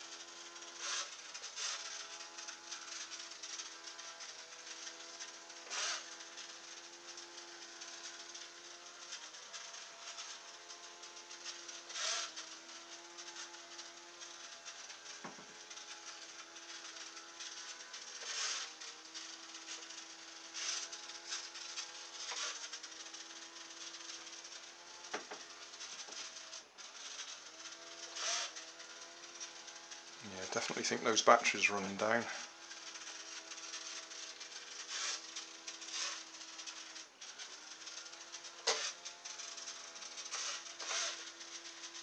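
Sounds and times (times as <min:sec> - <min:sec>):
small motor spinning propeller whine: 0:00.0 - 0:42.0.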